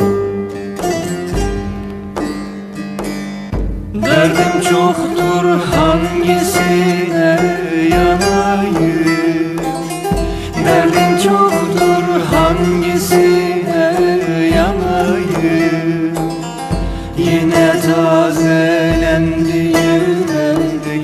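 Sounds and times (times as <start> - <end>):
plucked string melody: 0.0 - 21.0
low drum beat: 0.8 - 21.0.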